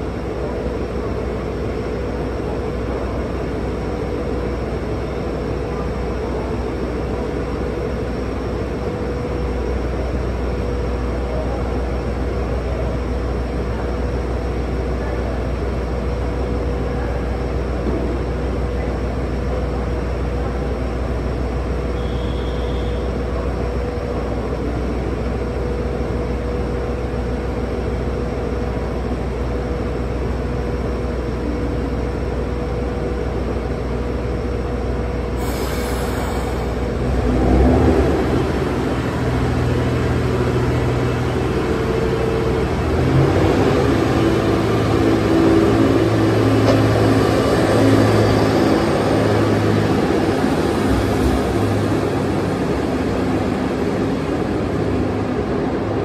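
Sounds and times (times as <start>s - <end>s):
railcar diesel engine idling: 0.0s - 56.0s.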